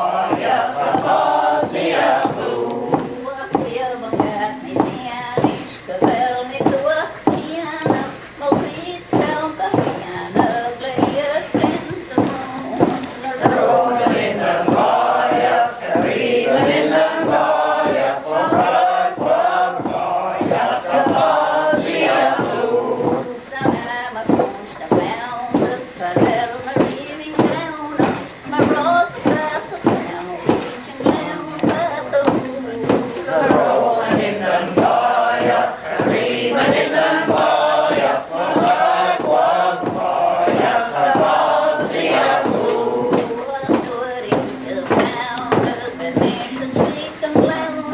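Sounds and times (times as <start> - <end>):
men and women singing in chorus: 0.0 - 47.9
cloth thumping on wooden table: 0.3 - 47.6.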